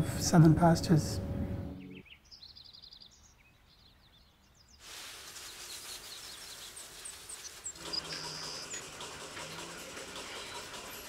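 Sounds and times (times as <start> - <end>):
birds chirping and trilling: 0.3 - 4.8, 5.4 - 11.0.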